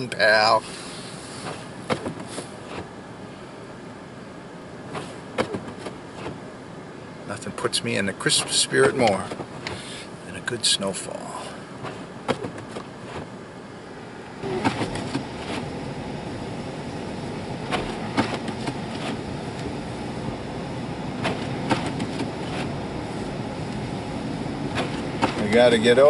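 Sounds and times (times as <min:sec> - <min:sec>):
tyre and road hiss: 0:00.1 - 0:03.7, 0:04.8 - 0:26.0.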